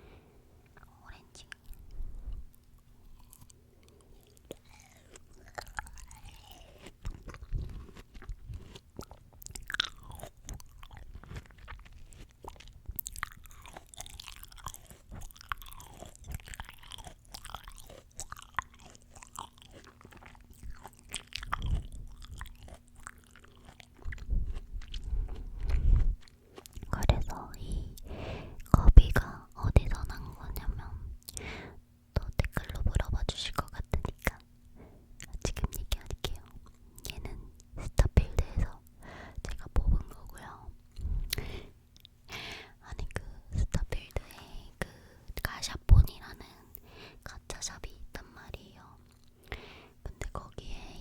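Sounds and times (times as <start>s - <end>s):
chewing crisp fruit: 0.7s - 31.5s, 32.1s - 51.0s.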